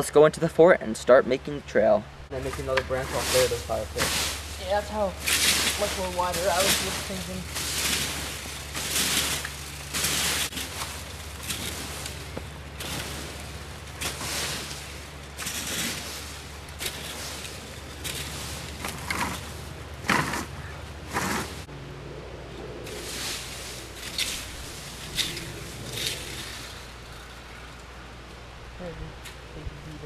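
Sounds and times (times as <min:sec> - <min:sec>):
rakes scraping dry leaves: 0:02.3 - 0:21.7, 0:22.6 - 0:28.6.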